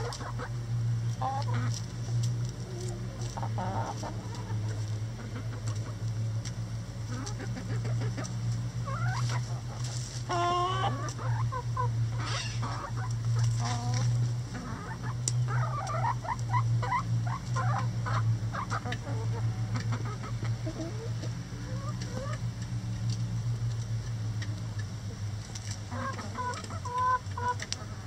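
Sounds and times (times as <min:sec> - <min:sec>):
chickens clucking: 0:00.0 - 0:28.0
steady low hum: 0:00.0 - 0:28.0.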